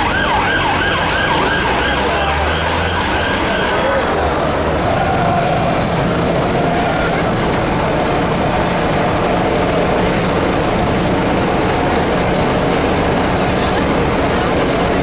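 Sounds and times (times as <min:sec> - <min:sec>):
rumble of traffic engines: 0:00.0 - 0:15.0.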